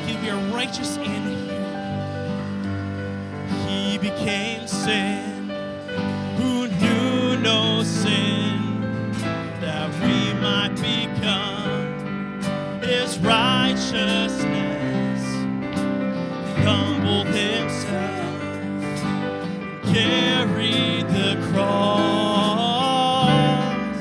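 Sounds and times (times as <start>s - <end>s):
guitar: 0.0s - 24.0s.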